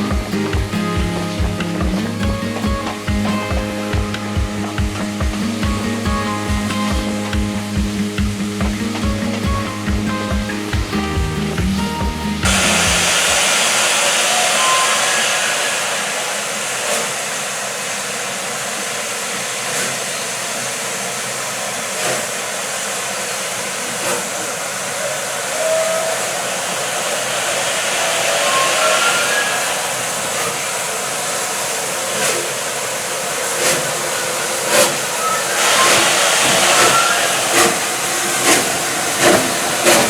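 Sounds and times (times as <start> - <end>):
steam locomotive hissing steam: 0.0 - 40.0.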